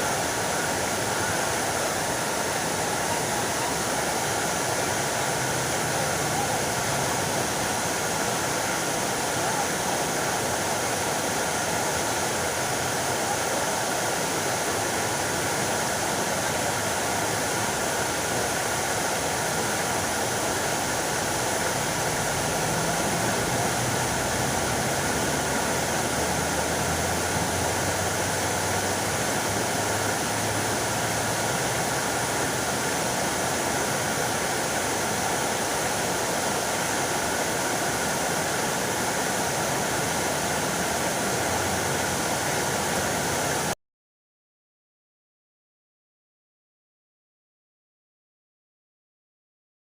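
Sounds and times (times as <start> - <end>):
fountain water splashing: 0.0 - 43.8.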